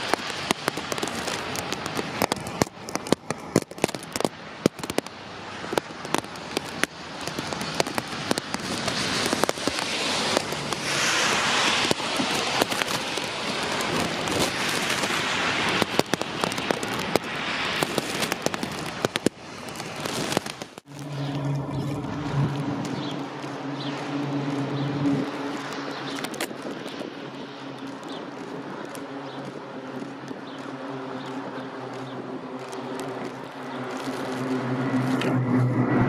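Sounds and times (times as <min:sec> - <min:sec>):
raindrops tapping near microphone: 0:00.0 - 0:35.4
heavy rain: 0:00.0 - 0:36.0.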